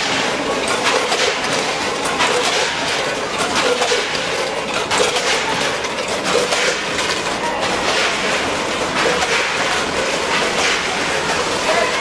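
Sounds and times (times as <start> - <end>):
weigher machine rattling: 0.0 - 12.0.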